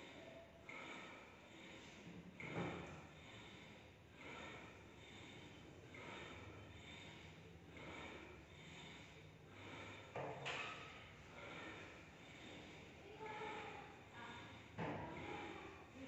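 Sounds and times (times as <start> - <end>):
man breathing forcefully: 0.0 - 16.0.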